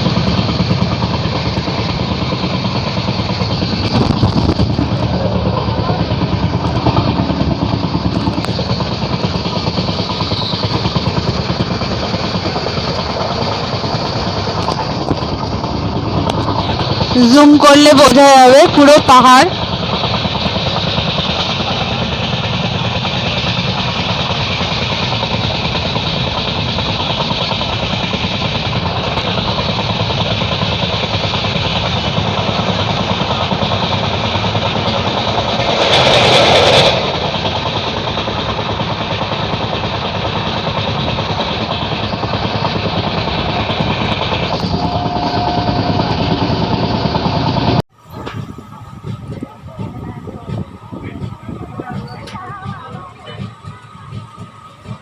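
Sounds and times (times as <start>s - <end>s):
loud rush of noise: 0.0s - 55.0s
train wheels rumbling on rails: 0.0s - 55.0s.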